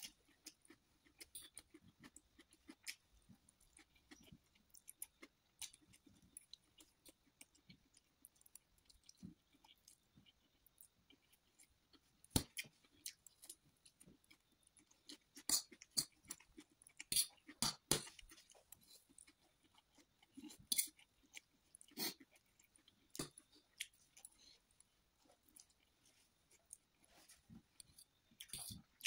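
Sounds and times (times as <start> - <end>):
noodles slurped and chewed: 0.0 - 29.0.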